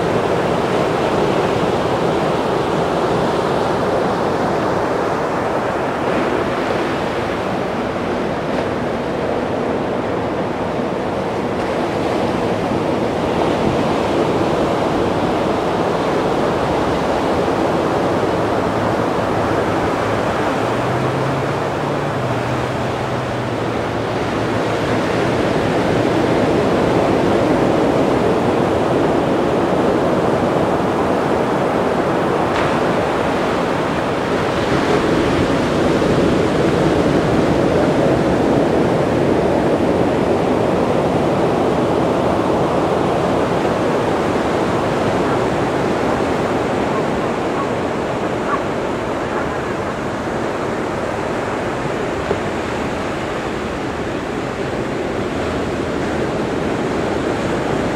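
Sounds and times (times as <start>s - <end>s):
ocean surf breaking: 0.0s - 57.9s.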